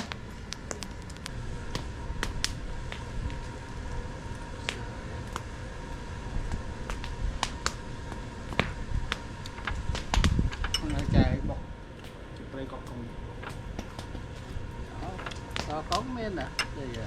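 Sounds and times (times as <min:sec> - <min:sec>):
low rumble: 0:00.0 - 0:16.9
fire crackling and popping: 0:00.0 - 0:17.0.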